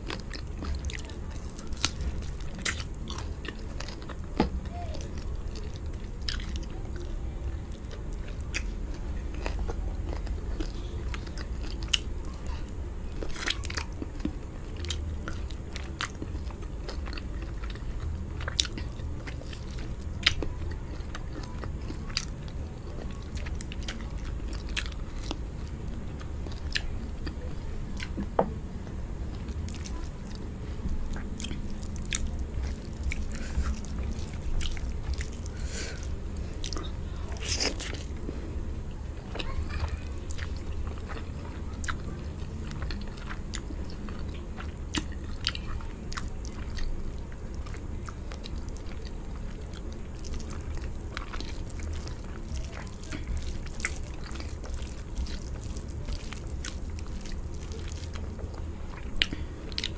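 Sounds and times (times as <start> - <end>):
steady low hum: 0.0 - 59.9
wet chewing sounds: 0.0 - 59.9.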